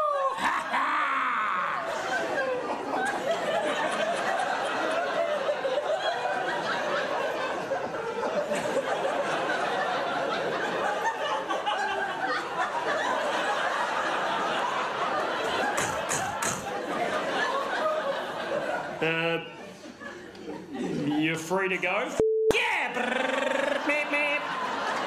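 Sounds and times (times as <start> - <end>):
audience laughing: 0.1 - 21.6, 23.0 - 25.0.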